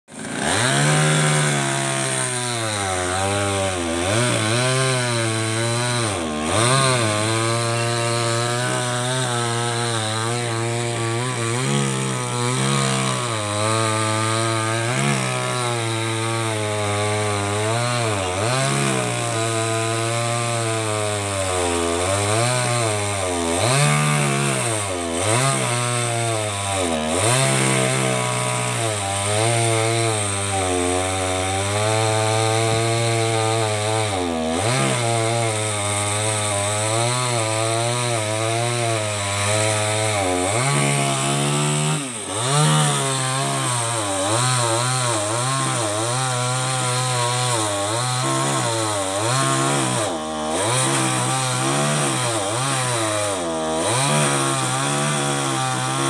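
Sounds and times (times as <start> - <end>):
electric chainsaw cutting wood: 0.0 - 56.0.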